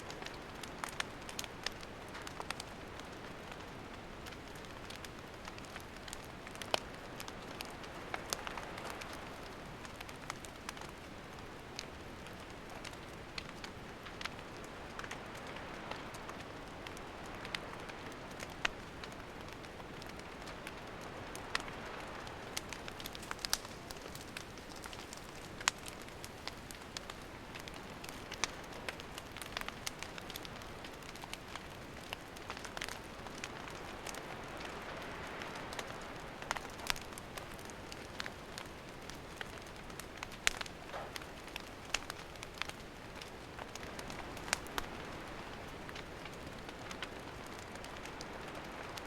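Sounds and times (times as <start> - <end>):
burning wood crackling: 0.0 - 49.0
campfire hissing: 0.1 - 49.0.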